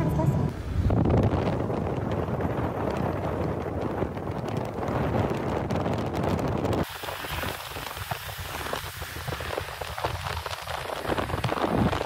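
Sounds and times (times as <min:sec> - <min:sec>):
wind and road noise from car: 0:00.0 - 0:12.0
rain pattering: 0:01.0 - 0:12.0.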